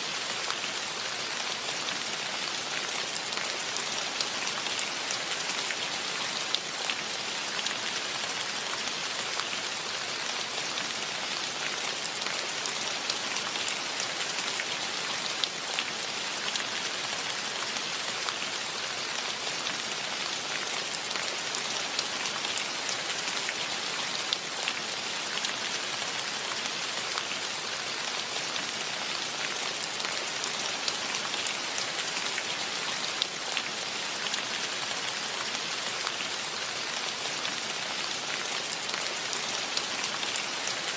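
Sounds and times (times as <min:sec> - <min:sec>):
steady rain with pattering drops: 0:00.0 - 0:40.9.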